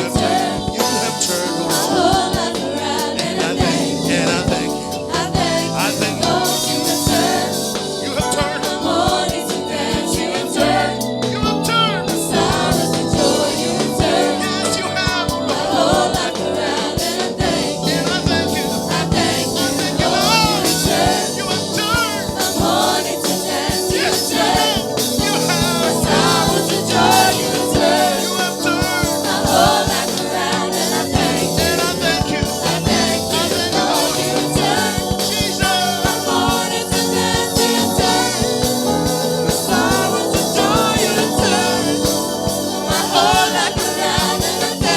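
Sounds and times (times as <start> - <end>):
band with drum beat: 0.0 - 44.9
choir singing: 0.0 - 44.9.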